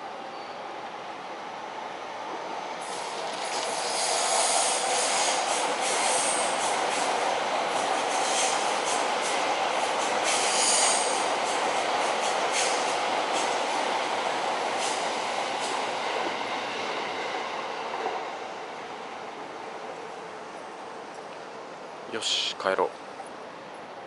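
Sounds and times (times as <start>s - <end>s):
train running on tracks: 0.0s - 24.0s.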